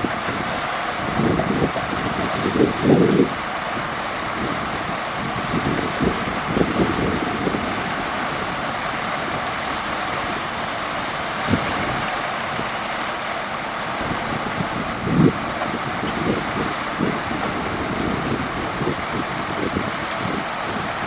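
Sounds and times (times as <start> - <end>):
heavy machinery diesel engine drone: 0.0 - 21.0.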